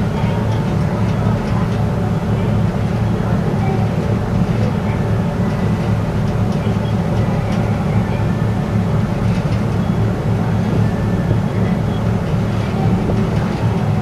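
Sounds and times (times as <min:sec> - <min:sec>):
ship diesel engines drone: 0:00.0 - 0:14.0.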